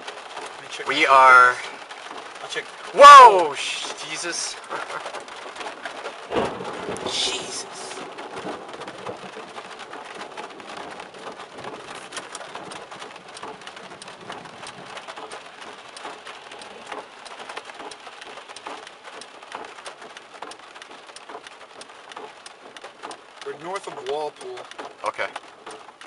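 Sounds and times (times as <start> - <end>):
rain on car windshield: 0.0 - 26.0.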